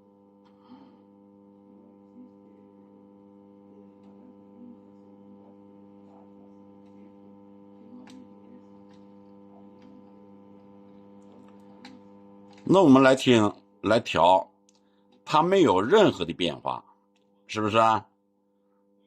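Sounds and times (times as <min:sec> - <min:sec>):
radio speaker mains hum: 0:00.0 - 0:19.0.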